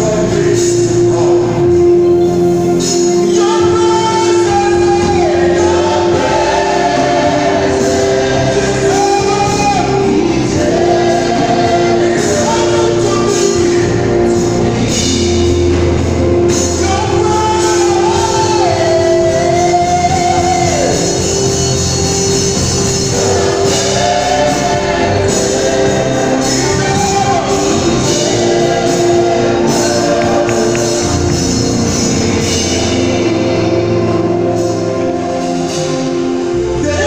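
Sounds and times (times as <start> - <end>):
amplified band playing: 0.0 - 37.0
singers singing into microphones: 0.0 - 37.0.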